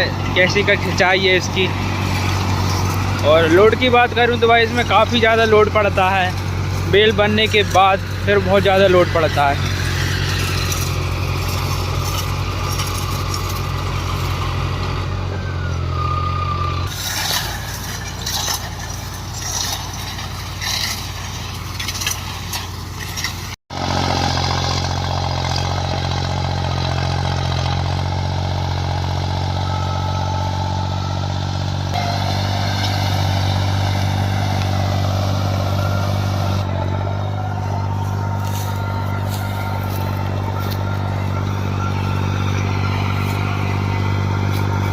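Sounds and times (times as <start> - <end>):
tractor diesel engine droning: 0.0 - 44.9.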